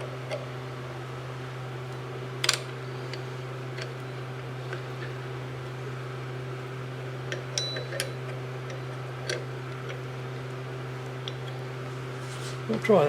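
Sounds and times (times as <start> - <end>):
grinder motor hum: 0.0 - 13.0.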